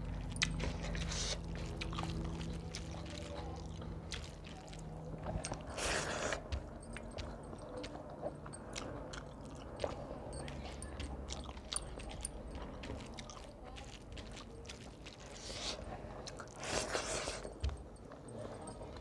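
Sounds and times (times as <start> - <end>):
person chewing with wet mouth clicks: 0.2 - 18.3.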